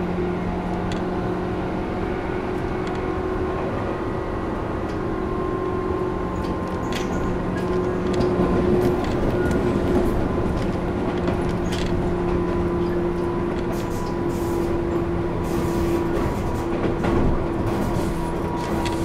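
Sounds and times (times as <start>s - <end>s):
train traction motor hum: 0.0s - 19.0s
wheels rumbling on rail: 0.0s - 19.0s.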